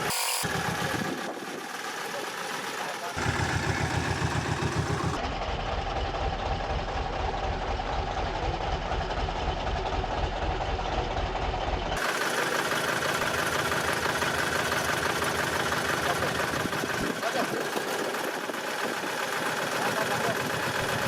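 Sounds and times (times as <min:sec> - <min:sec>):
road roller engine knocking: 0:00.5 - 0:21.0.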